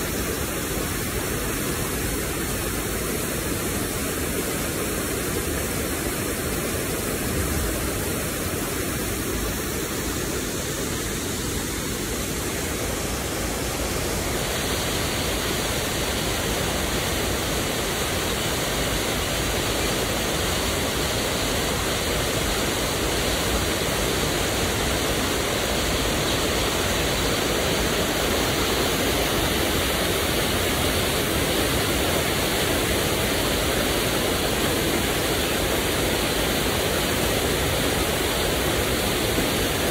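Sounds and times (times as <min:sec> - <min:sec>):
water rushing through dam gate: 0:00.0 - 0:39.9.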